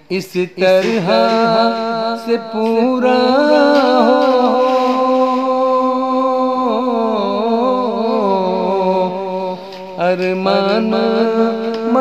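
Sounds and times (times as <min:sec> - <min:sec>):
man singing: 0:00.0 - 0:12.0.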